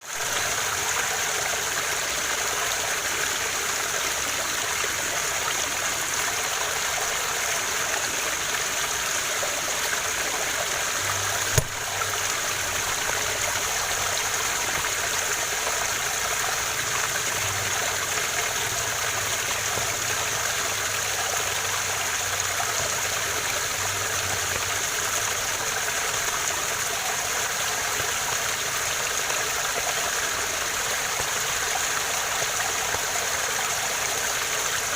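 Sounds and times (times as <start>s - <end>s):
waterfall rushing: 2.4s - 34.9s.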